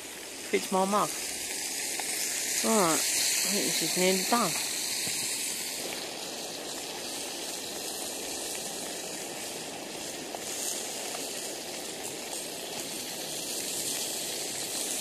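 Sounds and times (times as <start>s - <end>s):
gas burner hissing: 0.0s - 15.0s
sausages sizzling in a frying pan: 0.0s - 15.0s.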